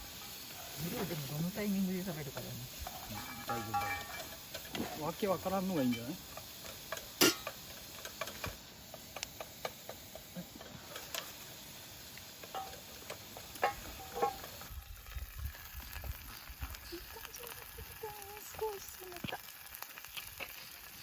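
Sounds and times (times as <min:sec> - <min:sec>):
campfire pops and crackles: 0:00.0 - 0:21.0
food sizzling in a skillet: 0:00.0 - 0:21.0.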